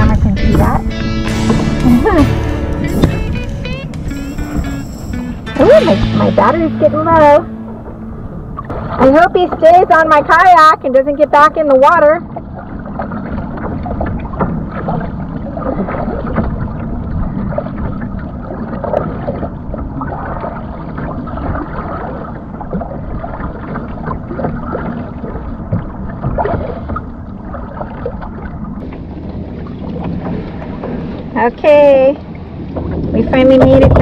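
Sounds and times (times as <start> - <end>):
water splashing around kayak: 0.0 - 34.0.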